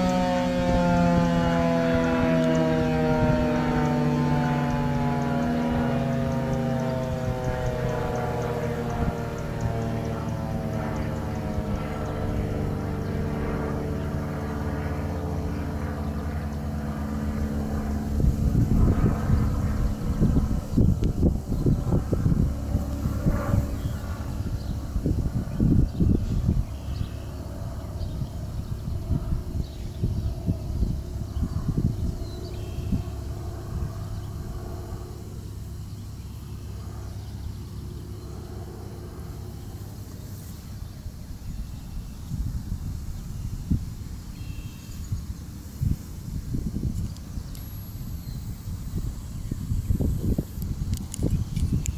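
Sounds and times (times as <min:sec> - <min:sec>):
electronic siren steady tone: 0:00.0 - 0:40.9, 0:44.3 - 0:51.9
low outdoor rumble: 0:00.0 - 0:44.4, 0:45.0 - 0:51.9.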